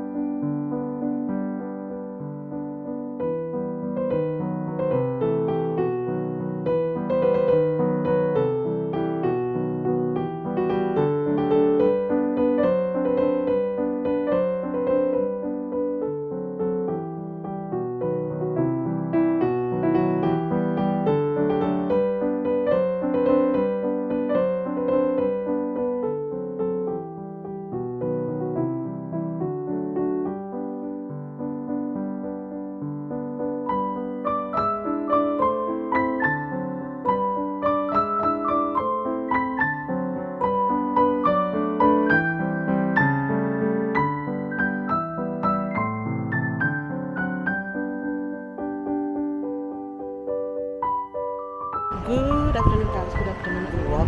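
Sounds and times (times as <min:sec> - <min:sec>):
electric piano melody: 0:00.0 - 0:54.0.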